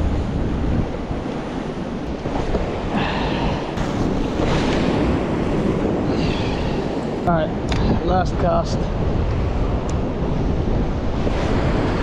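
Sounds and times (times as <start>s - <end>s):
ocean surf washing against rocks: 0.0s - 12.0s
wind rumbling on microphone: 0.0s - 12.0s.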